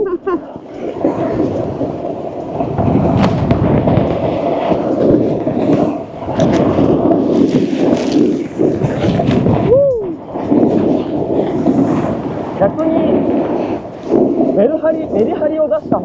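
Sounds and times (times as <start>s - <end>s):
snowboard scraping over snow: 0.0s - 16.0s
wind on microphone: 0.0s - 16.0s.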